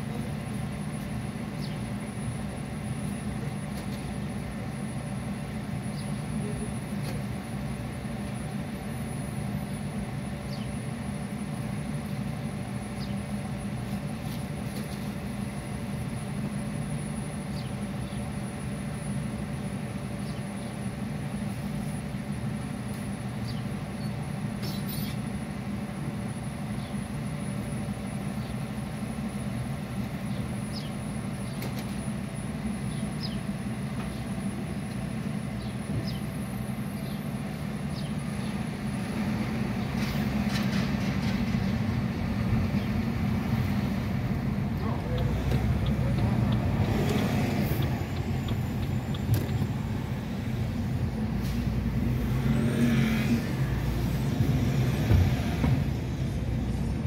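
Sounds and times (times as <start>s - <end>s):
car idling hum: 0.0s - 52.4s.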